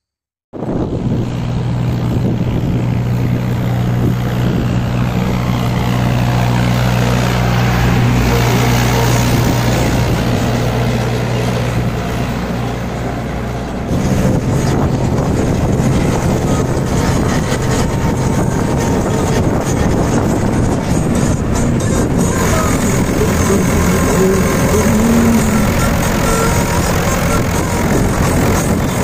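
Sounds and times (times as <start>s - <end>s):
wind noise: 0.5s - 29.0s
road noise: 0.6s - 29.0s
tractor diesel engine running: 0.6s - 29.0s.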